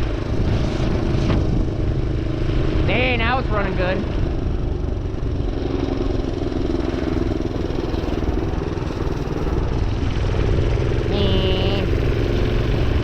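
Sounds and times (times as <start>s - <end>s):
minibike engine running: 0.0s - 13.0s.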